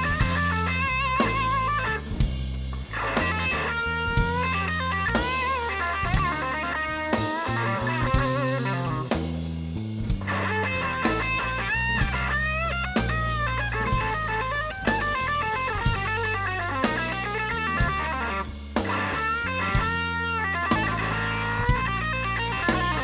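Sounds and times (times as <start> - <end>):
bass guitar: 0.0 - 23.0
drum kit: 0.0 - 23.0
electric guitar lead lines: 0.0 - 23.0.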